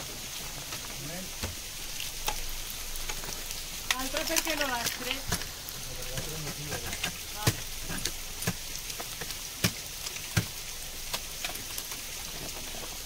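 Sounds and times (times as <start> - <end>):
ice and water pattering down: 0.0 - 13.0.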